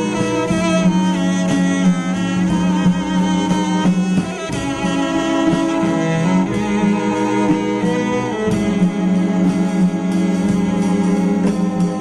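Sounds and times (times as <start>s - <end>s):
bowed cello: 0.0s - 12.0s
low sustained accompaniment: 0.0s - 12.0s.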